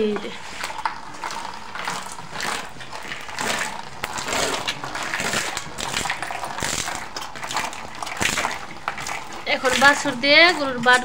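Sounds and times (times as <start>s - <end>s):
calf suckling rustling and crunching: 0.4s - 11.0s.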